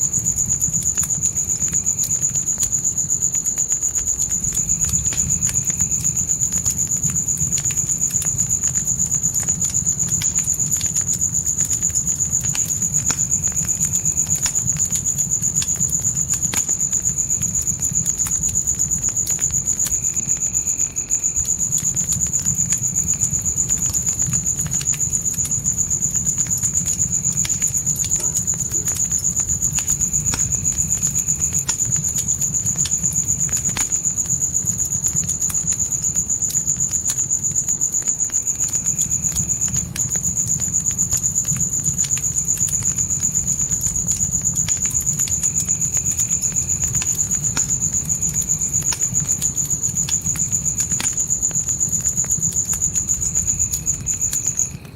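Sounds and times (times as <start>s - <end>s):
crackling fire: 0.0s - 54.9s
crickets chirping: 0.0s - 54.9s.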